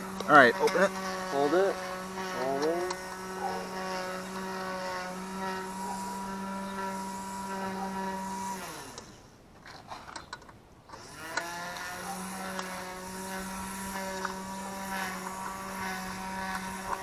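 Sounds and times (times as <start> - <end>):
motor humming and winding down: 0.0 - 9.3, 10.9 - 17.0.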